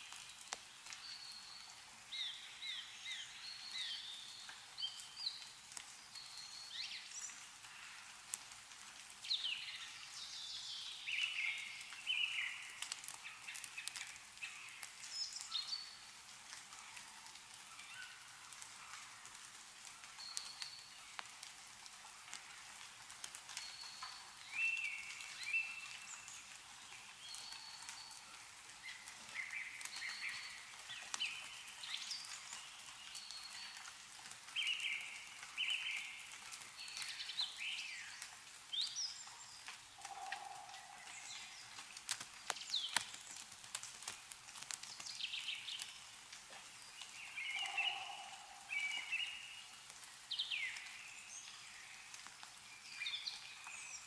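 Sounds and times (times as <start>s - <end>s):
small birds chirping: 0.0s - 8.1s, 9.2s - 21.6s, 22.8s - 54.0s
meltwater dripping from trees: 0.0s - 54.0s.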